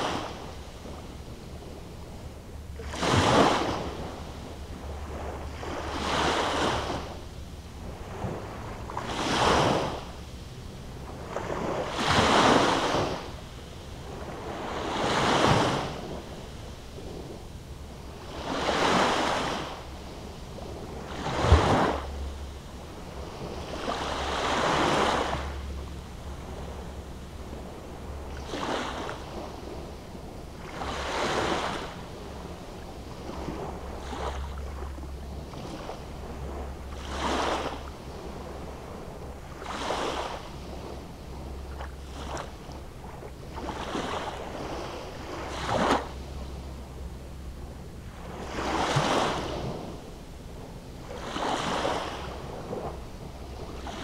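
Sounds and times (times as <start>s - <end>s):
small waves breaking on a beach: 0.0s - 54.0s.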